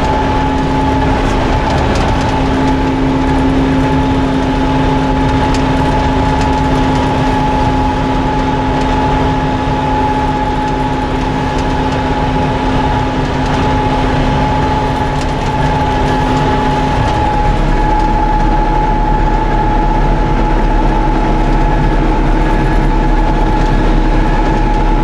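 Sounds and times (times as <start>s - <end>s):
high whine: 0.0s - 25.0s
round baler running: 0.0s - 25.0s
tractor engine rumble: 0.0s - 25.0s.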